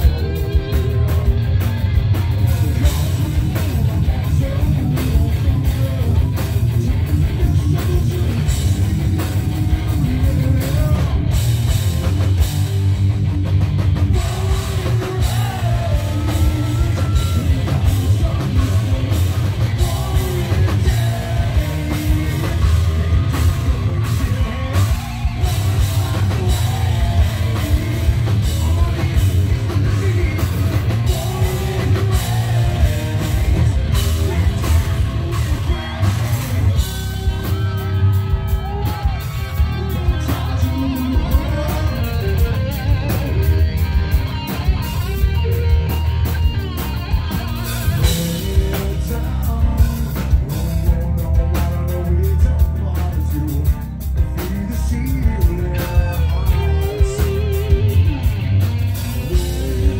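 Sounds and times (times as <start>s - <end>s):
person singing: 0.0s - 1.8s, 2.4s - 12.4s, 14.1s - 59.9s
live heavy metal band: 0.0s - 59.9s.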